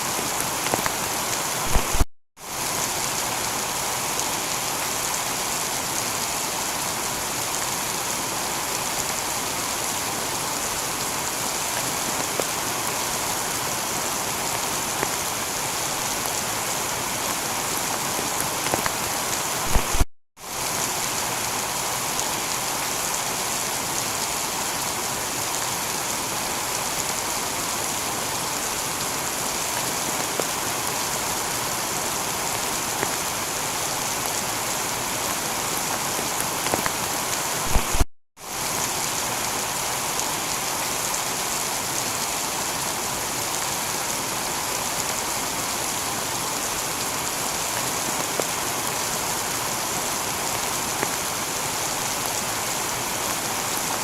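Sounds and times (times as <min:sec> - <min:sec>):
heavy rain on a tiled roof: 0:00.0 - 0:54.0.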